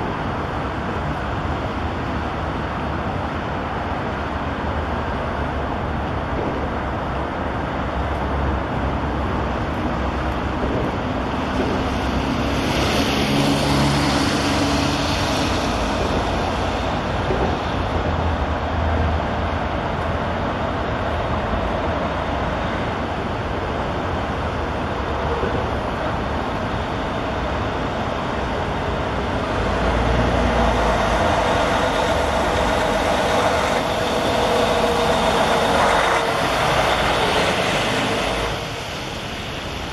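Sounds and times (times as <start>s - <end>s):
highway traffic rumble: 0.0s - 39.9s
heavy vehicle passing: 4.8s - 39.9s.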